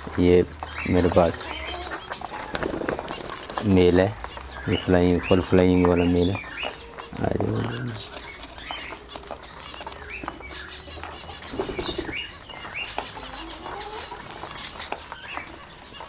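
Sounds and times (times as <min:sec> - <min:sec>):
parakeets calling and squawking: 0:00.0 - 0:16.0
wings flapping: 0:00.6 - 0:16.0.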